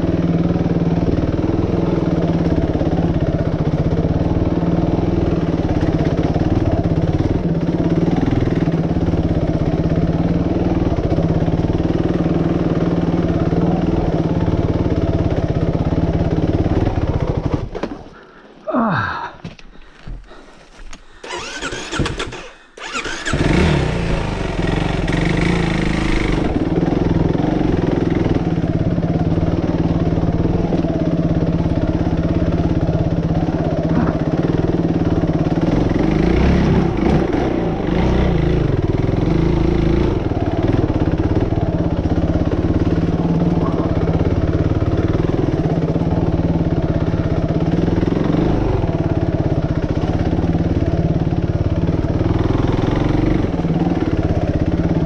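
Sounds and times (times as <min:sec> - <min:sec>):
dirt bike engine running: 0:00.0 - 0:18.2, 0:21.1 - 0:55.0.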